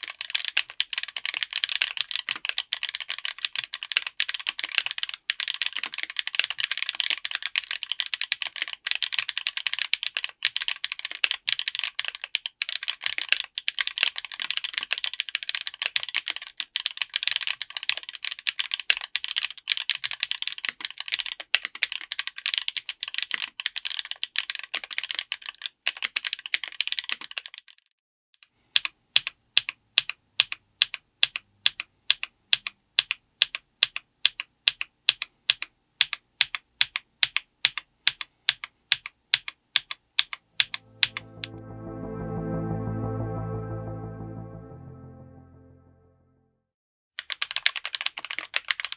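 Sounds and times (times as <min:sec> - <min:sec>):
fast typing on mechanical keyboard: 0:00.0 - 0:27.9, 0:28.8 - 0:40.4, 0:47.2 - 0:48.9.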